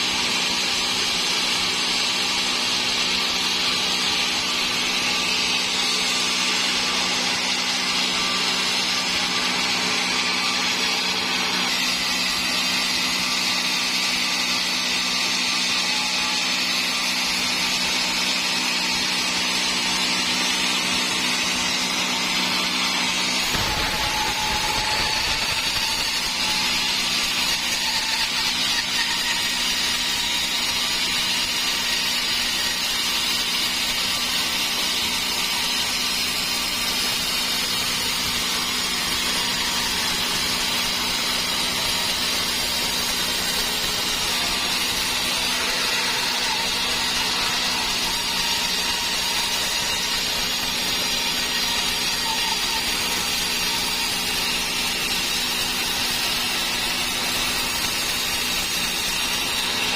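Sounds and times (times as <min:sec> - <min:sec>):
saw cutting timber: 0:00.0 - 0:59.9.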